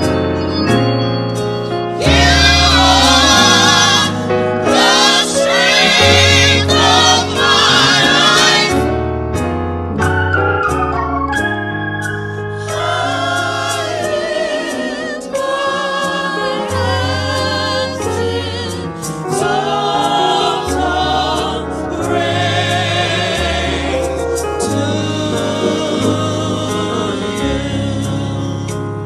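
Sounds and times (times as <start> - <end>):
sustained bass notes: 0.0 - 5.2, 6.0 - 15.1, 16.7 - 29.0
vocal ensemble singing gospel: 2.0 - 8.9, 12.5 - 29.0.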